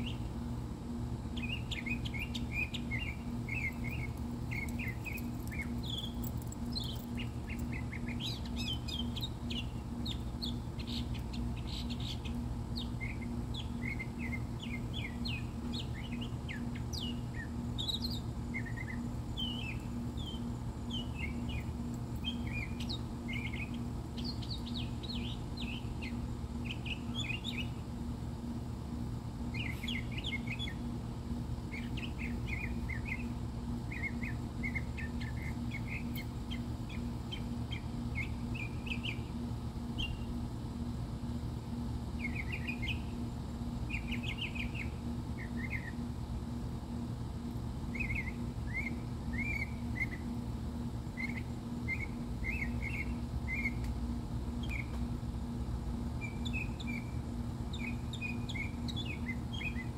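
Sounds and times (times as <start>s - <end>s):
songbird singing: 0.0s - 59.9s
steady low hum: 0.0s - 59.9s.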